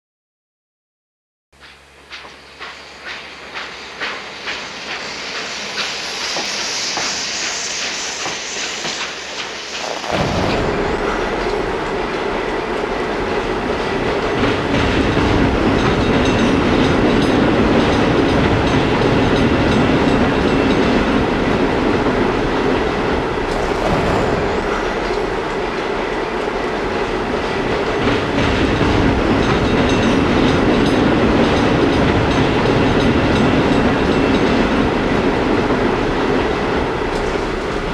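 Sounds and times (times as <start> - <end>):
train hiss: 1.6 - 37.9
train running with wheel clatter: 1.6 - 37.9.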